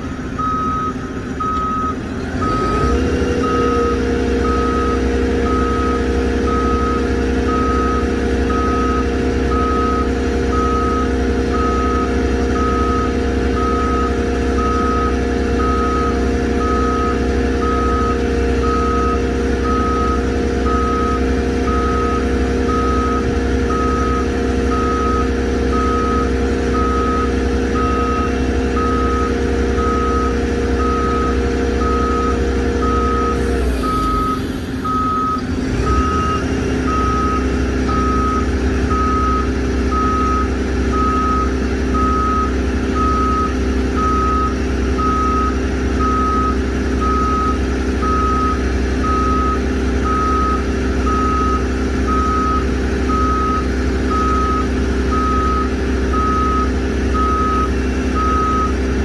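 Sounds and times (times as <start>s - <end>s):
truck engine drone: 0.0s - 59.0s
truck reverse alarm beeping: 0.0s - 59.0s.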